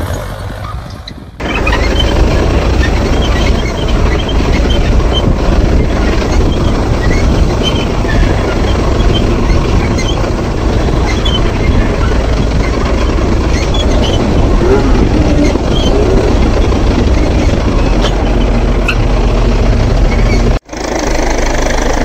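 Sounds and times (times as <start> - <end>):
tractor diesel engine rumbling: 0.0 - 22.0.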